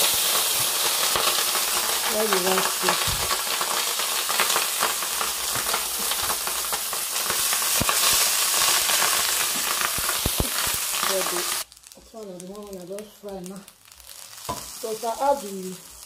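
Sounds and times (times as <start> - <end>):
rice sizzling in a pan: 0.0 - 16.0.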